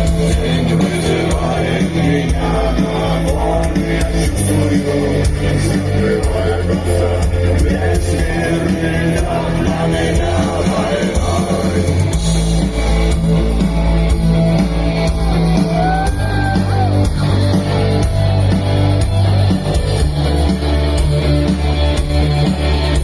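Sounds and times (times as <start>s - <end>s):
electric guitar: 0.0s - 23.0s
live rock band playing: 0.0s - 23.0s.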